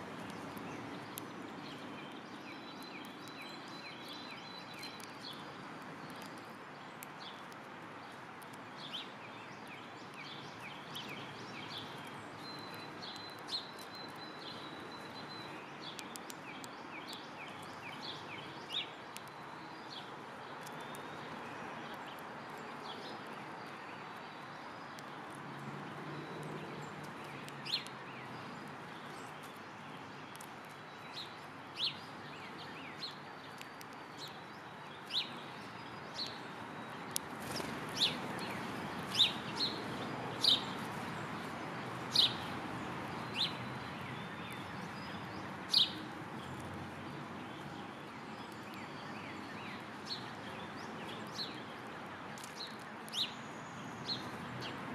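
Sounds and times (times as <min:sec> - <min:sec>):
sparrows chirping: 0:00.2 - 0:54.9.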